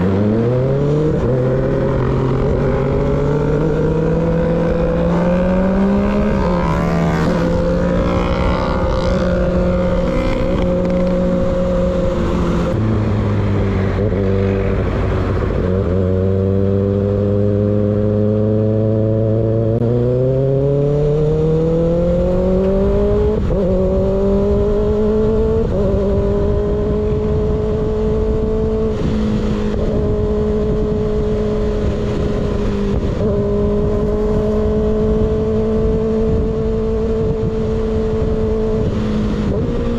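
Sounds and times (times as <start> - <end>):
motorcycle riding: 0.0 - 39.9
wind rush: 0.0 - 39.9.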